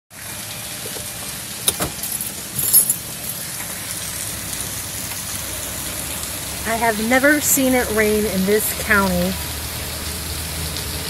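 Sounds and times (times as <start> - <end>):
heavy rain pouring: 0.1 - 11.0.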